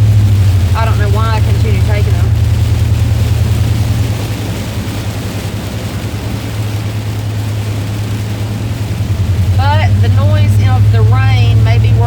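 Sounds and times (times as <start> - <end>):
engine and tyres on wet road: 0.0 - 12.0
rain hissing on car: 0.0 - 12.0.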